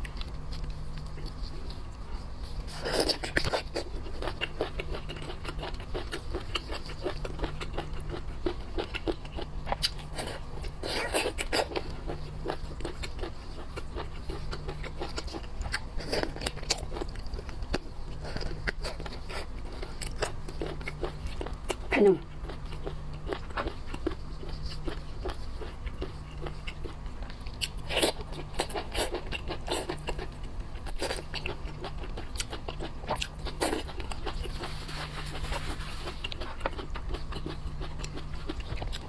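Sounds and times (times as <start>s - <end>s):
chewing and crunching seafood: 0.0s - 39.0s
steady low hum: 0.0s - 39.0s.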